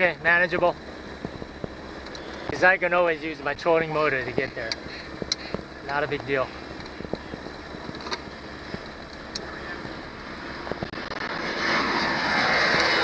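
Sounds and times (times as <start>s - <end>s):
wind noise: 0.0s - 2.6s, 3.5s - 13.0s
broad rushing noise: 0.0s - 13.0s
outboard motor humming: 0.0s - 13.0s.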